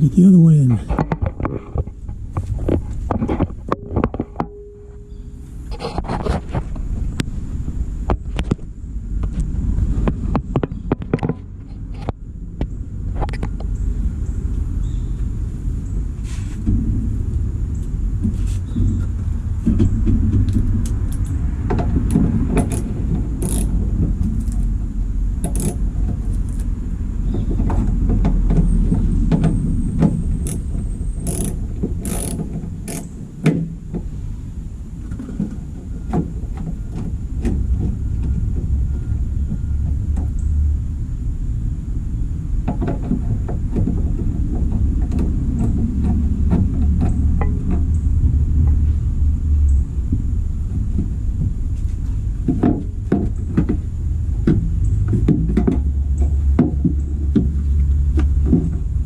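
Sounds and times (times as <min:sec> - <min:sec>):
steady low rumble: 0:06.4 - 0:59.0.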